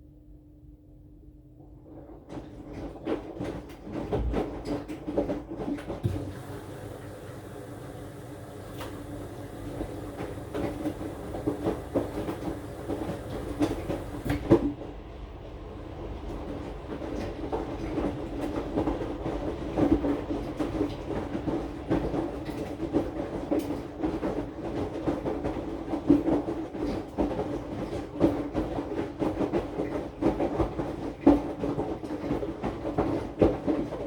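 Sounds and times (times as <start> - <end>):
washing machine motor hum: 1.3 - 34.0
washing machine drum tumbling: 1.7 - 34.0.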